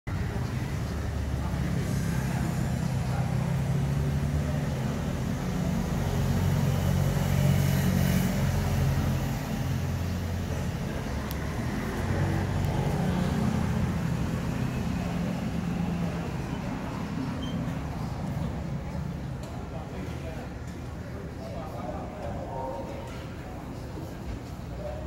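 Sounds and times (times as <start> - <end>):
street traffic rumble: 0.1 - 25.0.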